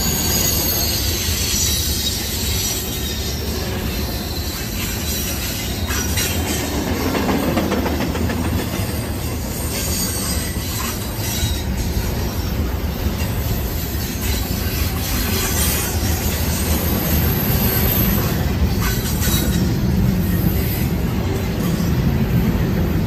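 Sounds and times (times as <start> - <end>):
high wheel squeal: 0.0 - 7.4, 8.9 - 22.2
train wheels rumbling on rail: 0.0 - 23.0.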